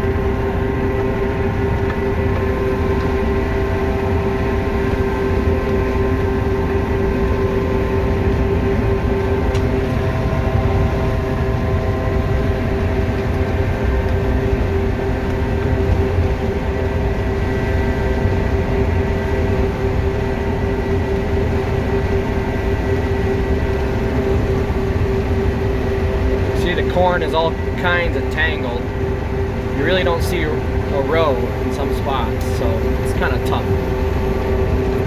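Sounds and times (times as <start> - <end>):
combine harvester droning: 0.0 - 35.0
steady machine whine: 0.0 - 35.0.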